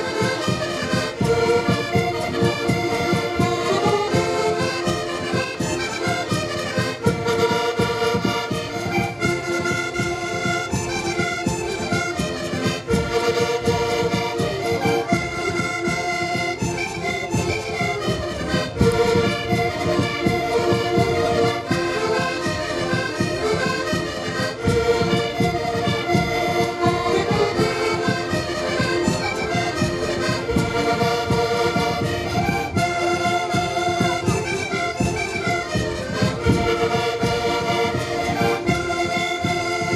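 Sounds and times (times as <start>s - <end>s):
accordions playing chords: 0.0s - 39.9s.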